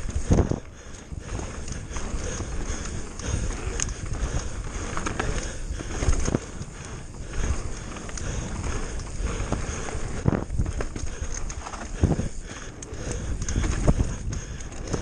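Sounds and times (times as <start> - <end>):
bike rattling and knocking: 0.0 - 15.0
bike tyres rumbling on gravel: 0.0 - 15.0.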